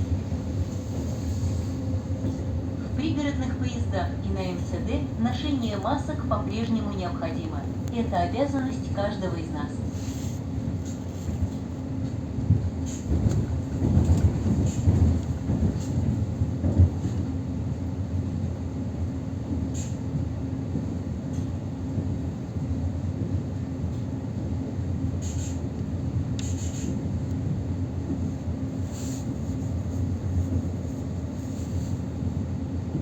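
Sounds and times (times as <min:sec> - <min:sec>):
constant train hum: 0:00.0 - 0:33.0
train wheels rumbling on rails: 0:00.0 - 0:33.0.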